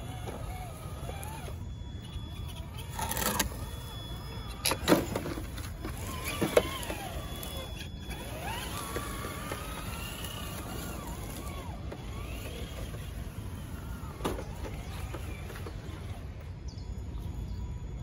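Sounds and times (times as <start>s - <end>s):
toy car motor whining: 0.0s - 16.4s.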